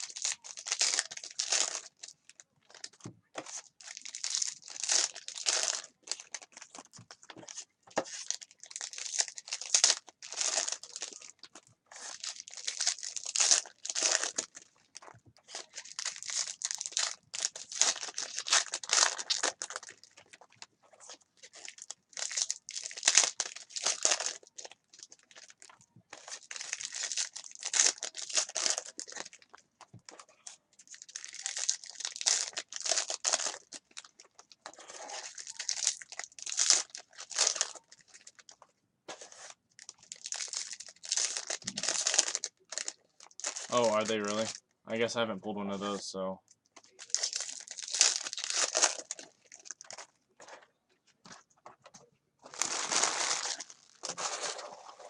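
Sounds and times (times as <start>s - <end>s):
foil wrappers crinkling and tearing: 0.0s - 38.6s, 39.2s - 44.6s, 46.8s - 50.6s, 52.4s - 55.0s.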